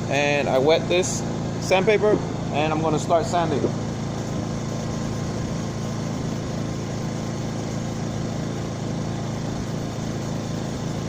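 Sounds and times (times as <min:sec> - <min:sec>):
engine humming at idle: 0:00.0 - 0:11.0.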